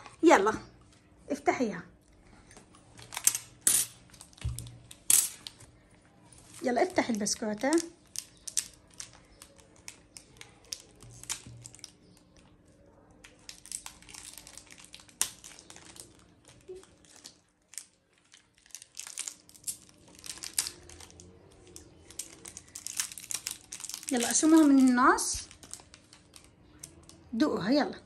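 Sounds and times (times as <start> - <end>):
biscuit wrapper crinkling: 2.4 - 27.4.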